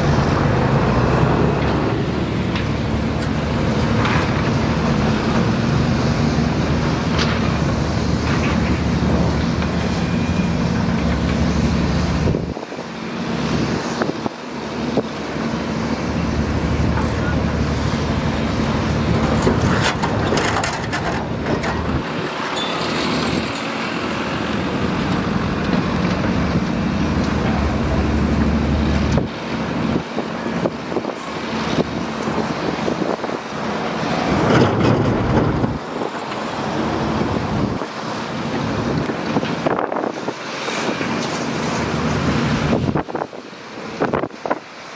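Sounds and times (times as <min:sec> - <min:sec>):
heavy machinery diesel engine: 0:00.0 - 0:44.9.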